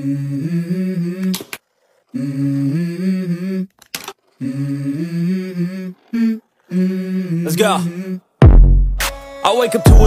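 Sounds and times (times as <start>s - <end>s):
person humming: 0.0s - 8.5s.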